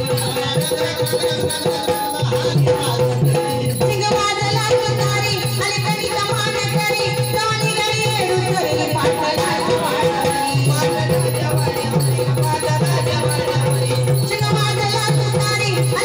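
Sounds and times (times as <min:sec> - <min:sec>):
person singing: 0:00.0 - 0:16.0
rattling percussion: 0:00.0 - 0:16.0
steady drum beat: 0:00.0 - 0:16.0.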